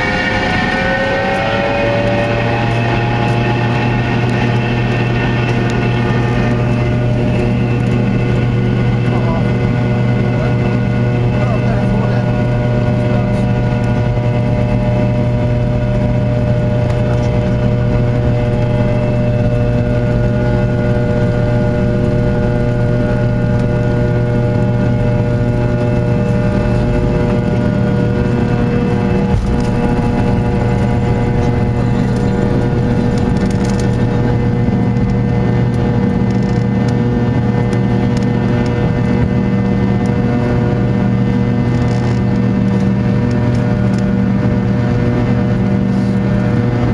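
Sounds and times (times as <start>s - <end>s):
jet engines droning in cabin: 0.0s - 46.9s.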